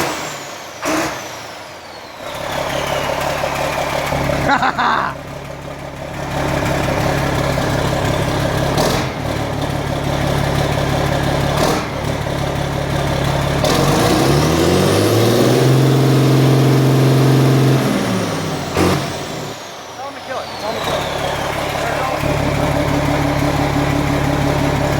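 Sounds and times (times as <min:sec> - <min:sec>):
vehicle engine idling and revving: 0:00.0 - 0:24.9.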